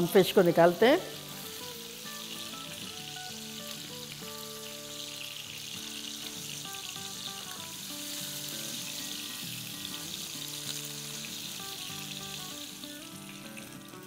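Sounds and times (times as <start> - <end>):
background music: 0.0 - 14.0
fish sizzling in hot oil: 0.0 - 14.0.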